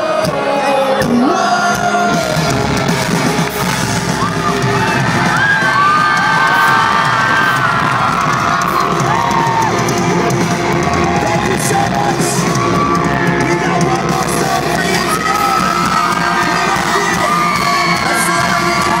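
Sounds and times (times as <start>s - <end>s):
crowd shouting and whooping: 0.0s - 19.0s
live pop-punk band: 0.0s - 19.0s.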